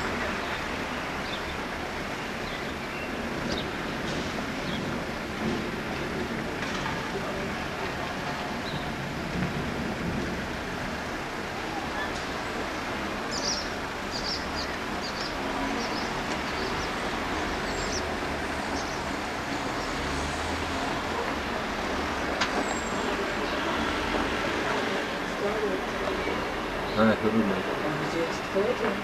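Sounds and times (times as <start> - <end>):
distant road traffic: 0.0 - 29.0.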